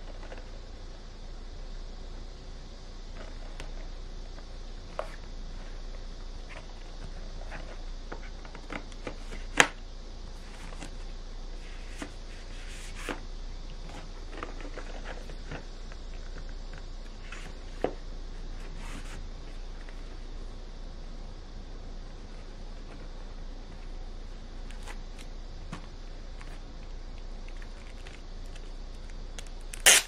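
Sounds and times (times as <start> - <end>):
steady hiss and low hum: 0.0 - 30.0.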